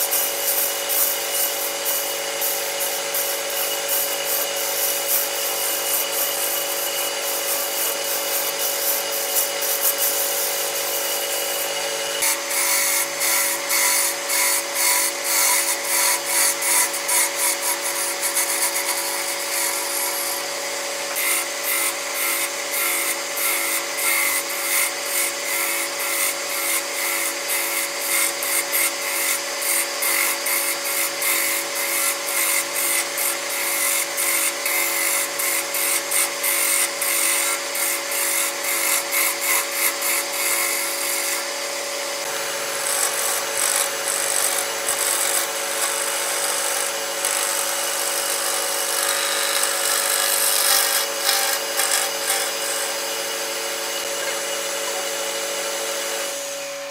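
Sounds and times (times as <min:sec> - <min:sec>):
lathe motor whine: 0:00.0 - 0:56.9
tool scraping spinning wood: 0:00.0 - 0:56.9.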